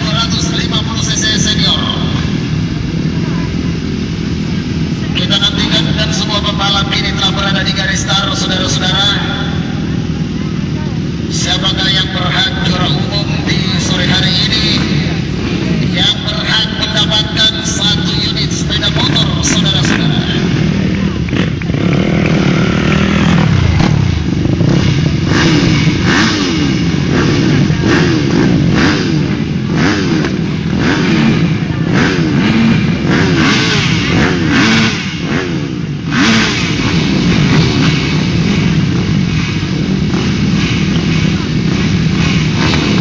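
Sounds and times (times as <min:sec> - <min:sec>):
motocross bikes revving: 0:00.0 - 0:43.0.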